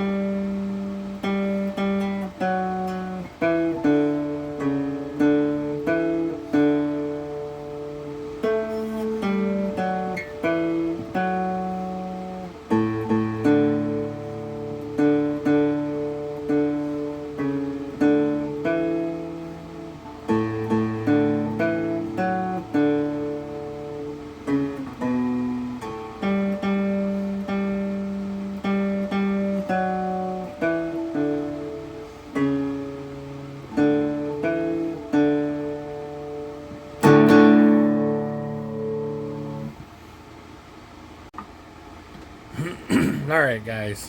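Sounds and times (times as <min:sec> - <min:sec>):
cigar box guitar melody: 0:00.0 - 0:44.0.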